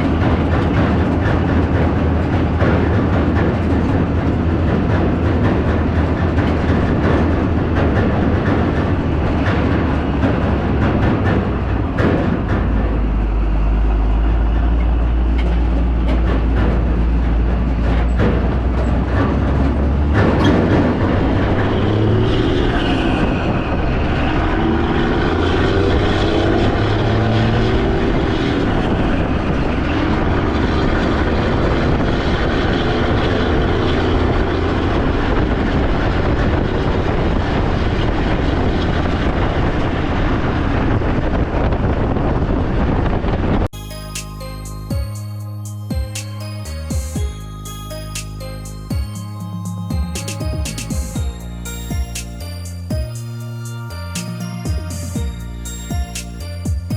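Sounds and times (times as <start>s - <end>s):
low hum: 0.0s - 56.9s
vehicle engine and road noise: 0.0s - 56.9s.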